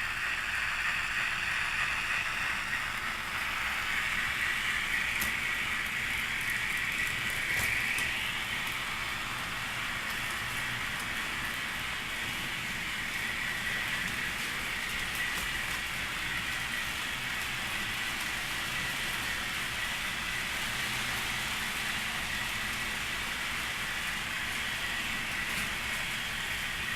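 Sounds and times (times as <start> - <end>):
model locomotive hiss and whine: 0.0 - 26.9.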